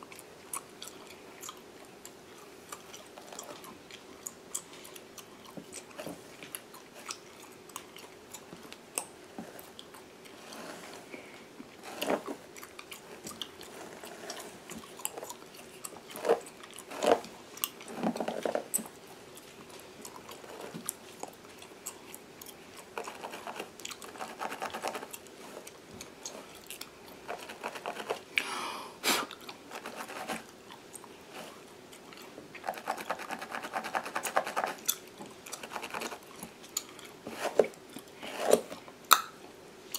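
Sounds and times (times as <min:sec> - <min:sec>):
gum chewing with wet smacks: 0:00.0 - 0:10.4, 0:11.6 - 0:28.4, 0:30.4 - 0:33.4, 0:34.7 - 0:39.4.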